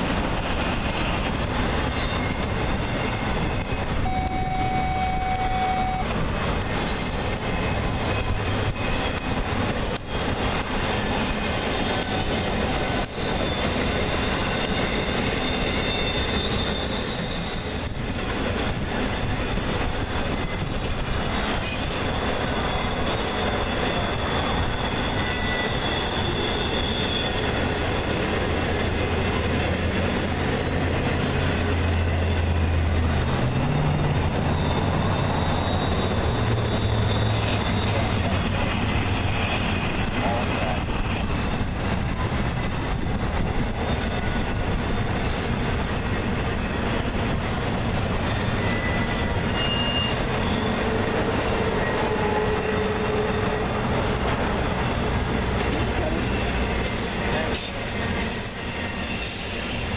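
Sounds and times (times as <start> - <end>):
diesel locomotive hum: 0.0 - 59.9
freight train cars rolling: 0.0 - 59.9
metallic wheel squeal: 1.8 - 6.2, 6.9 - 28.0, 30.2 - 38.3, 39.4 - 53.9, 56.3 - 59.9.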